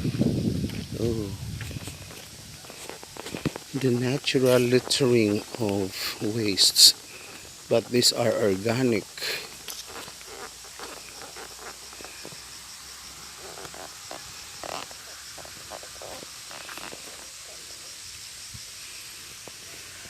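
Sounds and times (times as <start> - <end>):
dry leaves and twigs crackling: 0.0 - 20.0
insects chirring: 0.0 - 20.0.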